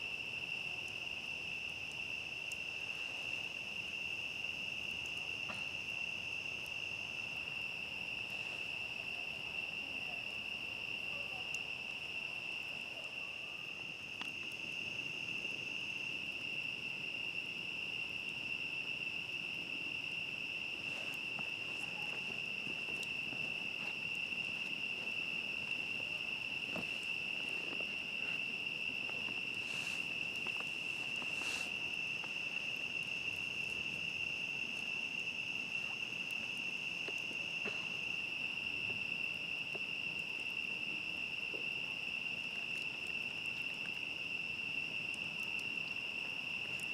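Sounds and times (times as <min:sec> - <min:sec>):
campfire crackling: 0:00.0 - 0:46.9
crickets chirping: 0:00.0 - 0:46.9.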